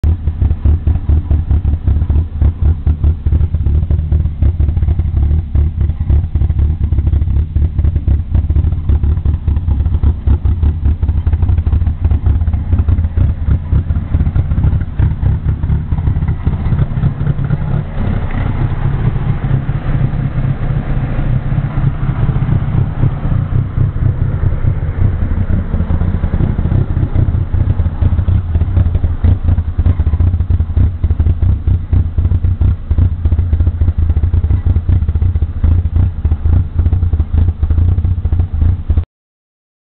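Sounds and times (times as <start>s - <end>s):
car engine idling roughly: 0.0s - 39.0s.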